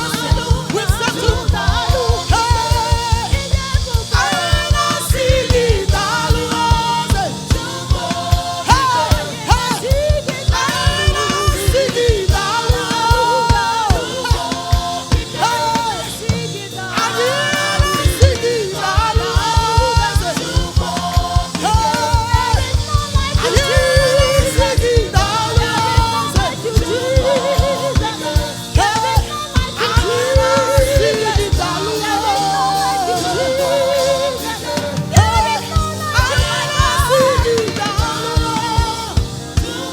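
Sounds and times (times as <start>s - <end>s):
bass: 0.0s - 39.9s
gospel choir singing: 0.0s - 39.9s
steady drum beat: 0.0s - 39.9s.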